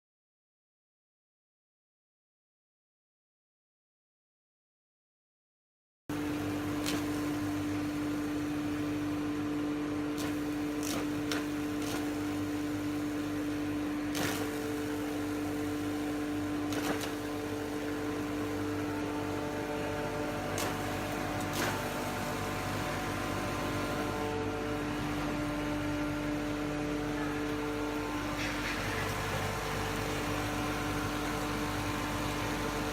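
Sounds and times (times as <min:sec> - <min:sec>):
powder mill humming: 0:06.1 - 0:32.9.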